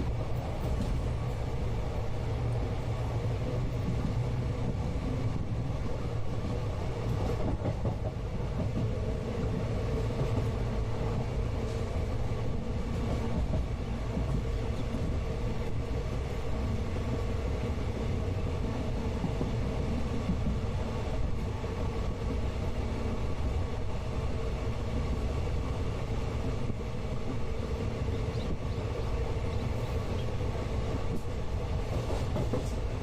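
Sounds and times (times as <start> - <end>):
train rumble inside coach: 0.0 - 33.0.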